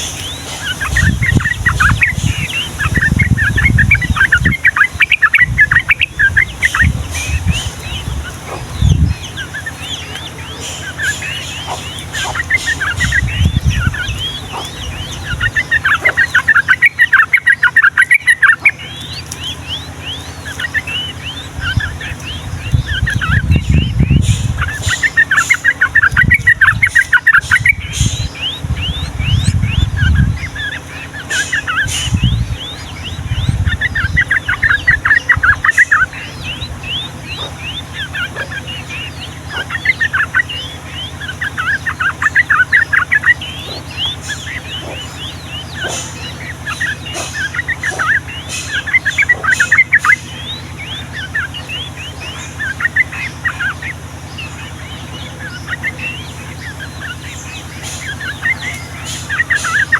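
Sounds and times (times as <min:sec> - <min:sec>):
bulbuls chattering: 0:00.0 - 0:59.9
other birds chirping: 0:00.0 - 0:59.9.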